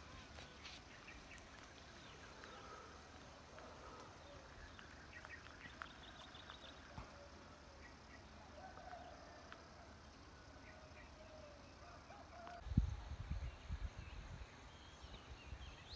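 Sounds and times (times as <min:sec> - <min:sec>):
faint bird calls and chirps: 0:00.0 - 0:15.9.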